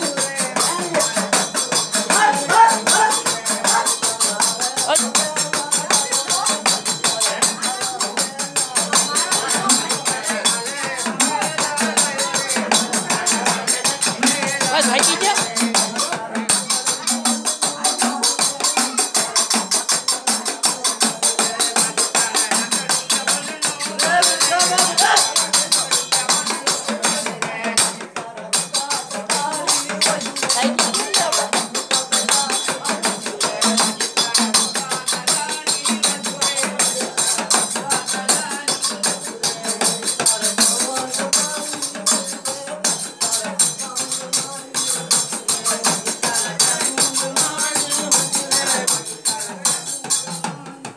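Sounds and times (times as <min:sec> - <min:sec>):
folk drum with jingling ring: 0:00.0 - 0:50.9
men singing: 0:00.0 - 0:50.9.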